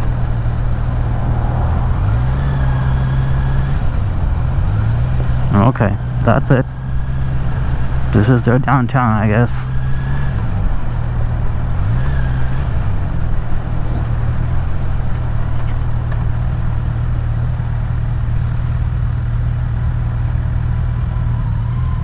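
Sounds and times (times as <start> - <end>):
steady rushing noise: 0.0 - 19.2
motorcycle engine running: 0.0 - 22.0.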